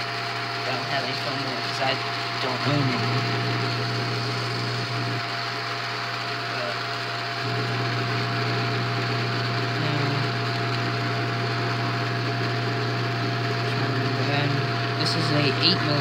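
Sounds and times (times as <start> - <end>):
film projector motor hum: 0.0 - 16.0
thin whine: 0.0 - 16.0.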